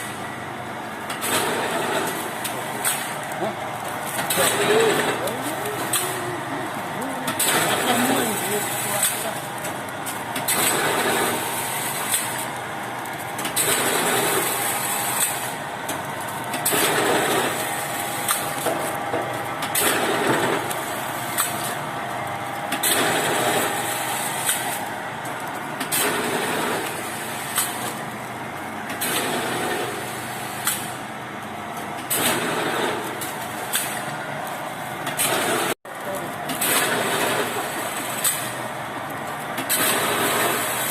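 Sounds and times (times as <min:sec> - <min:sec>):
packing machine noise bursts: 0:00.0 - 0:40.9.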